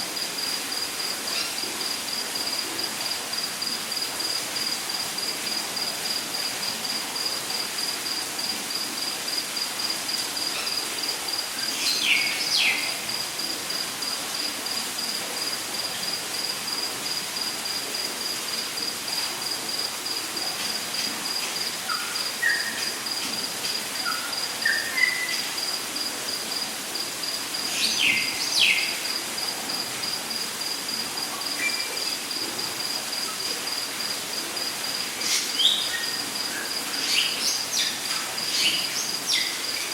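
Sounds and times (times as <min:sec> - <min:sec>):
constant even hiss: 0:00.0 - 0:39.9.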